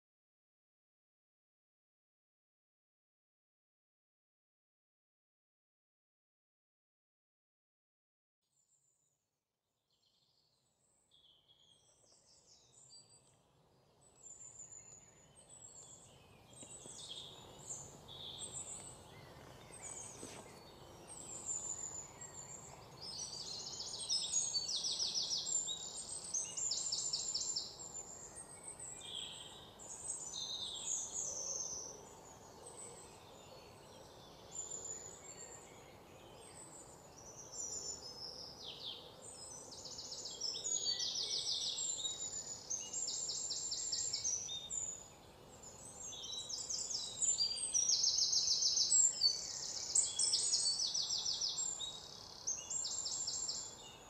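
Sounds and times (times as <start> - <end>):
small birds chirping: 10.0 - 54.0.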